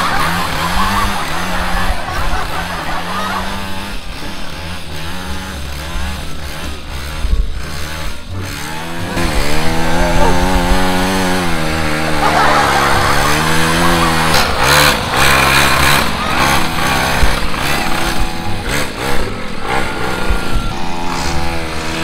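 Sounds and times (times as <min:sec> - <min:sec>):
small petrol engine revving: 0:00.0 - 0:22.0.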